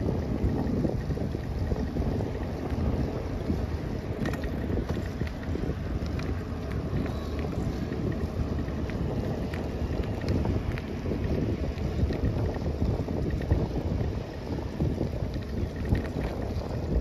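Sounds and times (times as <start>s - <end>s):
bicycle tyres rolling on pavement: 0.0s - 17.0s
light ticks and rattles: 0.0s - 17.0s
wind buffeting microphone: 0.0s - 17.0s.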